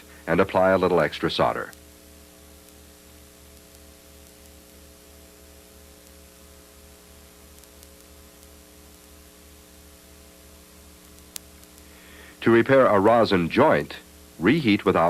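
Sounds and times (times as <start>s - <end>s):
electrical mains hum: 0.0s - 15.0s
low pulsing buzz: 0.0s - 15.0s.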